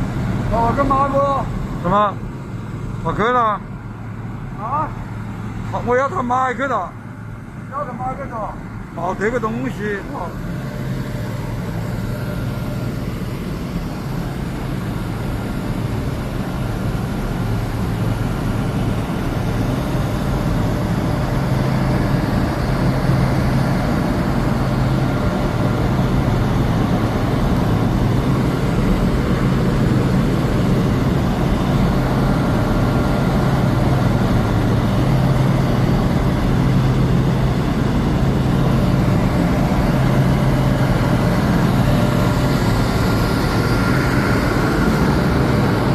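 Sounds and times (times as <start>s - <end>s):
furnace burner rumble and hiss: 0.0s - 45.9s.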